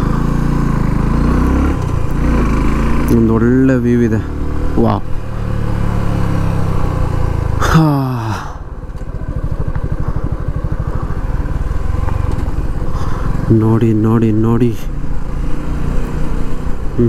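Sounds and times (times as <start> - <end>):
motorcycle engine chugging: 0.0 - 17.0.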